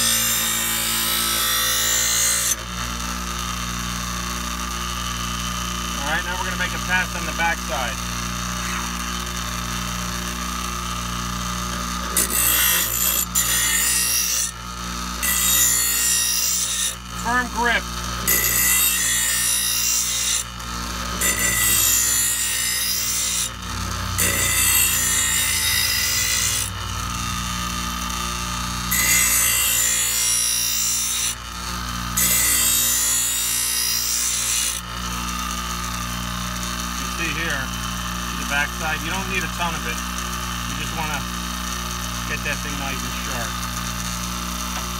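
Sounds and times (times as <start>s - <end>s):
bench grinder motor running: 0.0s - 44.9s
steel blade grinding on wheel: 0.0s - 44.9s.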